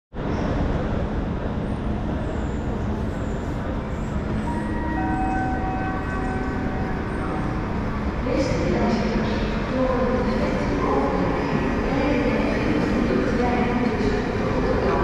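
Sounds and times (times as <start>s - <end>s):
electric locomotive rumble and hum: 0.1s - 15.0s.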